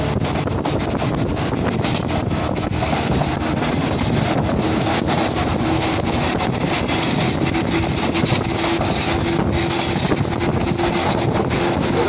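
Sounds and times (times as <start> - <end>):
electric train motors roaring: 0.0 - 12.0
wind buffeting microphone: 0.0 - 12.0.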